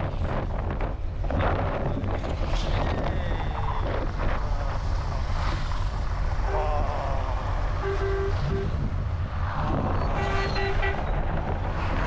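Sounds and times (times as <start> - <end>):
low engine and road rumble: 0.0 - 12.0
wind buffeting microphone: 0.0 - 12.0.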